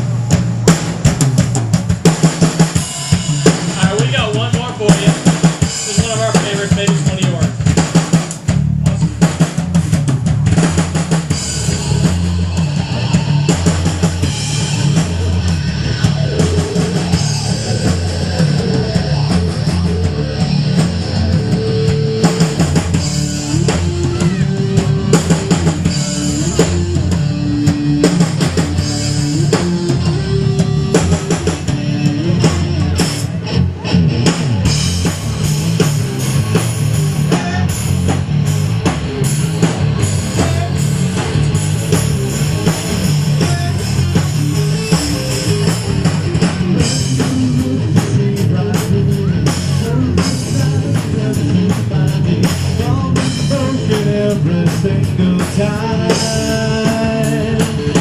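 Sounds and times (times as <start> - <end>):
hard rock instrumental: 0.0 - 58.0
melodic guitar line: 2.6 - 7.7, 10.4 - 58.0.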